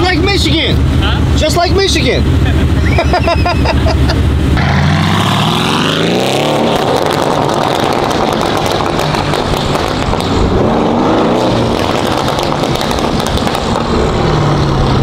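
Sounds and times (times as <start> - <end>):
sports car engine and exhaust: 0.0 - 15.0.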